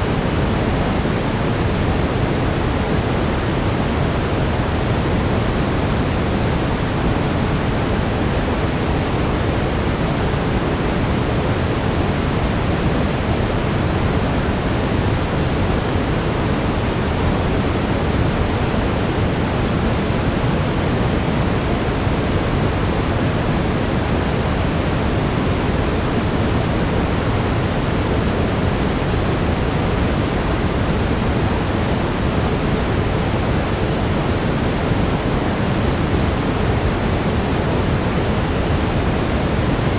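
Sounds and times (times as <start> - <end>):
brown noise low rushing hiss: 0.0 - 39.9.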